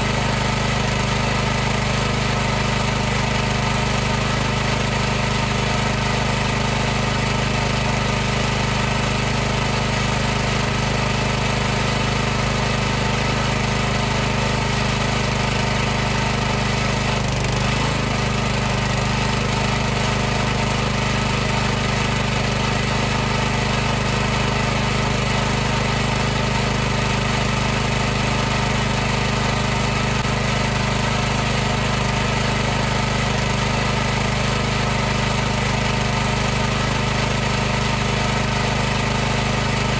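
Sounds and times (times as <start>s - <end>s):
pressure washer motor hum and hiss: 0.0s - 39.9s.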